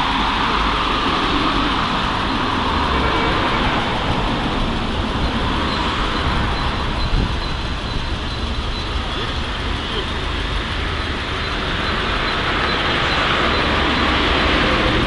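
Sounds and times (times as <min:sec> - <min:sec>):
cars driving past: 0:00.0 - 0:15.0.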